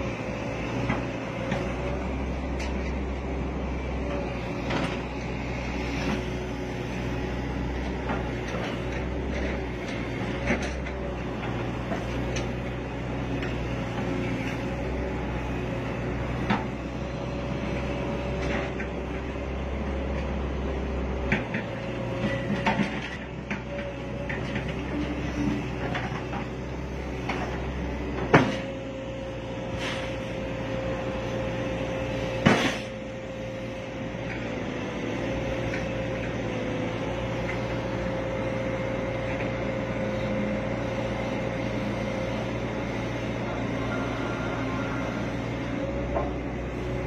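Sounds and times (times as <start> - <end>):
excavator diesel engine humming: 0.0 - 47.0.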